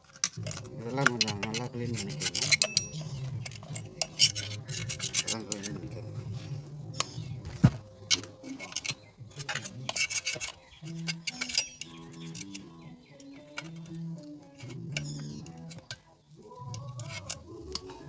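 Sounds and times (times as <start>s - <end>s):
metal clicks: 0.0s - 5.9s, 7.0s - 18.0s
screwdriver scraping sawdust: 0.0s - 6.1s, 6.9s - 18.0s.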